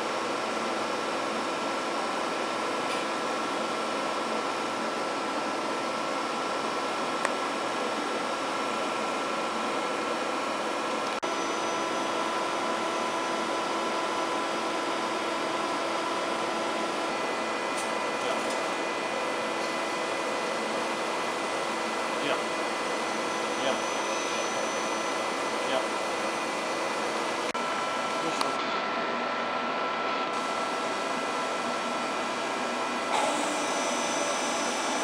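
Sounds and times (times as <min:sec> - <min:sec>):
milling machine whirring hum: 0:00.0 - 0:35.0.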